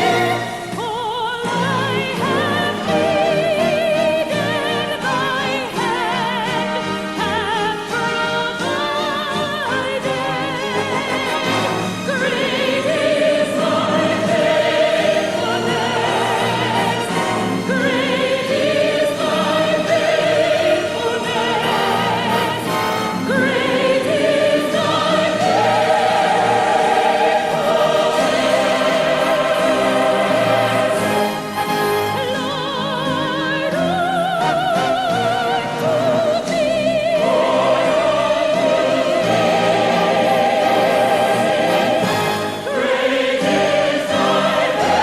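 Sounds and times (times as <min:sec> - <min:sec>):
choir singing long wavering notes: 0:00.0 - 0:45.0
orchestra playing: 0:00.0 - 0:45.0.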